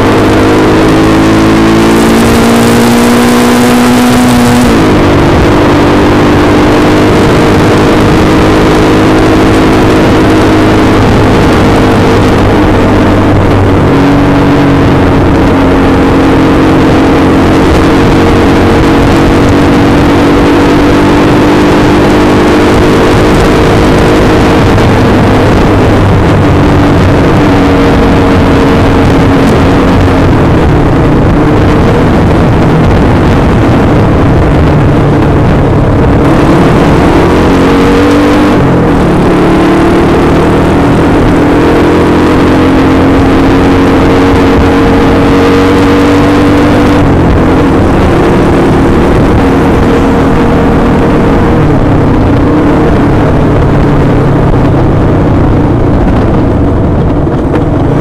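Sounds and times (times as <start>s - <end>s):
motorcycle engine running hard: 0.0s - 58.0s
wind rushing: 0.0s - 58.0s.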